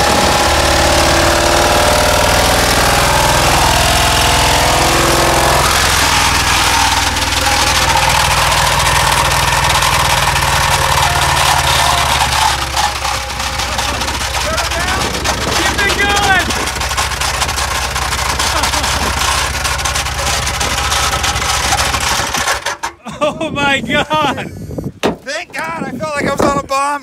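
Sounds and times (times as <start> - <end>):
engine running loud: 0.0 - 23.0.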